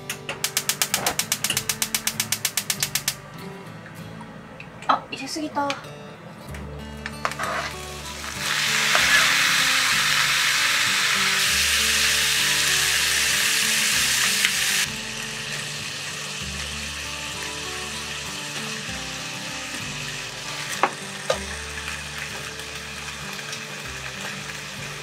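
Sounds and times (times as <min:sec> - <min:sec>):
pork sizzling in frying pan: 0:00.4 - 0:03.2, 0:07.2 - 0:25.0.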